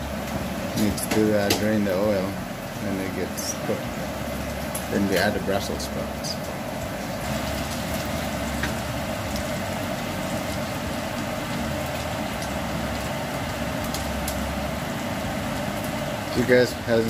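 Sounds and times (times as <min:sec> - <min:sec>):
bacon and onion sizzling in a pan: 0:00.0 - 0:17.0.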